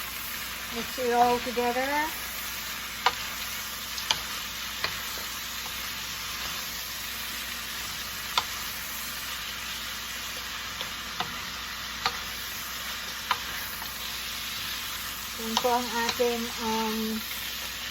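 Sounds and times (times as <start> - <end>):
food sizzling in a pan: 0.0 - 17.9.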